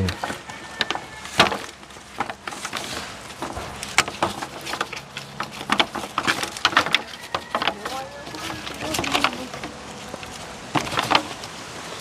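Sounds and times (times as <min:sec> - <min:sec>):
aluminium foil pan crinkling: 0:00.0 - 0:11.6.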